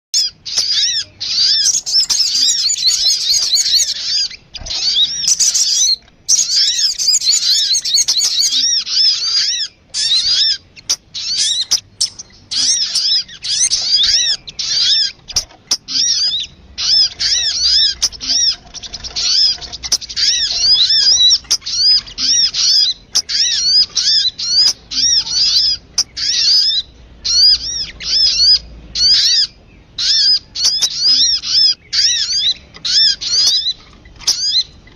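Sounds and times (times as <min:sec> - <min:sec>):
high bird chirping: 0:00.2 - 0:34.9.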